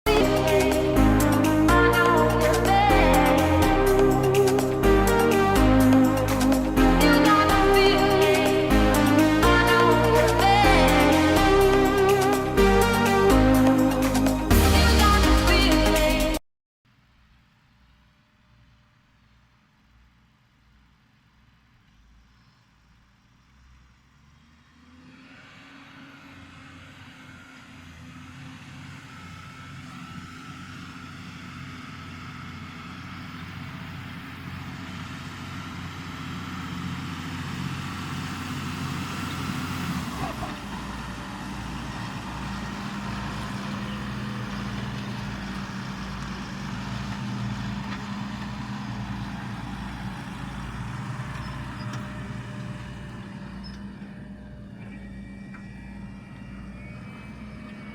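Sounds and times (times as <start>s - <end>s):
tractor diesel engine under load: 0.0s - 16.4s, 21.9s - 57.9s.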